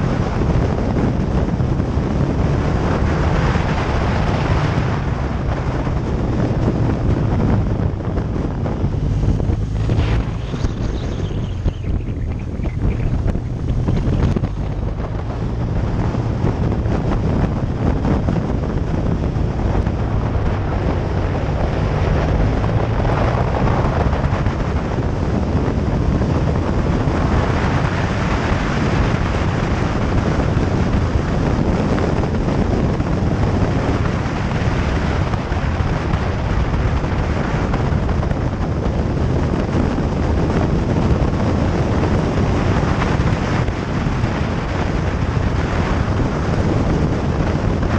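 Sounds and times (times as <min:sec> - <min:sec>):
motorcycle engine drone: 0:00.0 - 0:47.9
wind rushing over microphone: 0:00.0 - 0:47.9.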